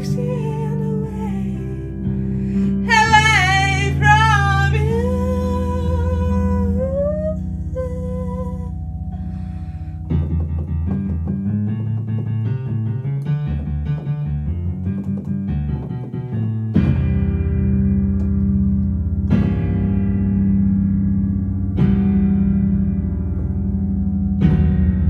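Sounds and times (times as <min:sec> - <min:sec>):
keyboard piano playing: 0:00.0 - 0:25.0.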